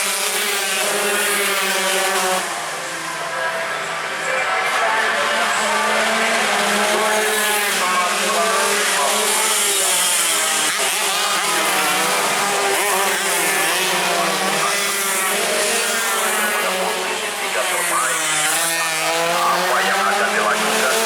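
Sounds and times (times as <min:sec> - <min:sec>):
racing motorcycles revving: 0:00.0 - 0:21.0.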